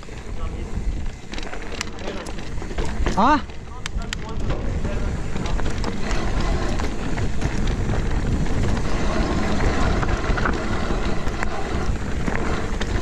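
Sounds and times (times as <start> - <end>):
bike clicks and rattles: 0.0 - 13.0
bike tyre noise on dirt: 0.0 - 13.0
wind buffeting microphone: 0.0 - 13.0.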